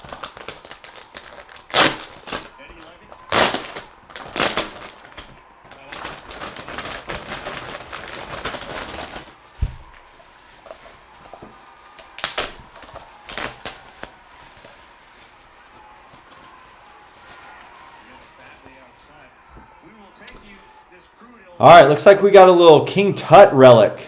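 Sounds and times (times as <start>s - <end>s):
packaging rustling and crinkling: 0.0s - 20.6s.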